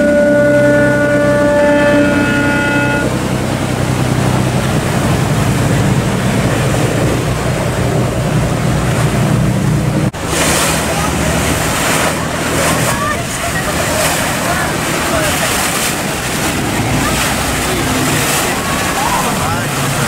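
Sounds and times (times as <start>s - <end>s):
diesel boat engines humming: 0.0s - 20.0s
waves rushing: 0.0s - 20.0s.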